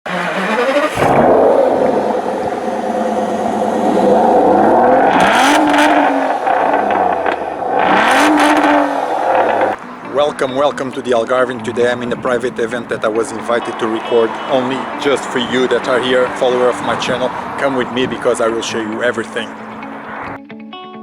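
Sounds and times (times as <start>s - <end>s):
sports car engine revving: 0.1s - 20.4s.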